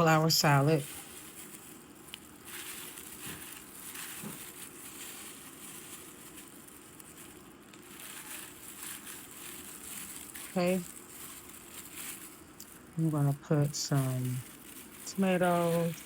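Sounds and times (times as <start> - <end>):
salad leaves rustling in a bowl: 0.0 - 16.0.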